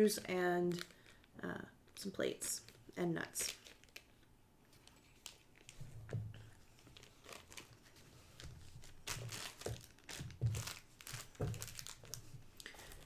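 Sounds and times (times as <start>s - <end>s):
packaging crinkling and rustling: 0.2s - 1.3s, 1.9s - 13.0s.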